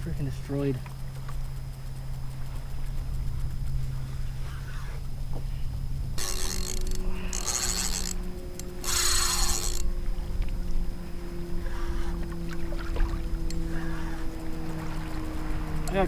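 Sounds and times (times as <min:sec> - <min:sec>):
fishing reel drag buzzing: 0:00.0 - 0:16.0
low wind rumble: 0:00.0 - 0:16.0.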